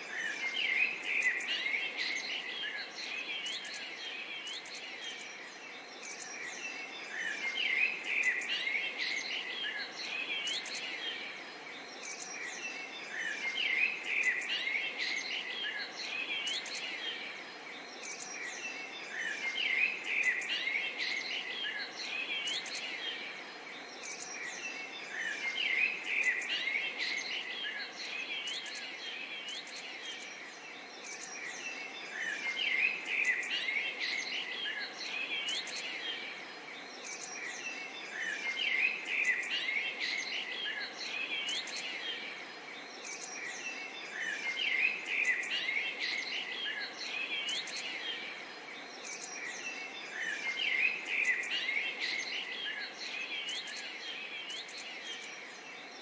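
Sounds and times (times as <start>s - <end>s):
outdoor background hiss: 0.0s - 56.0s
songbirds chirping and singing: 0.0s - 56.0s.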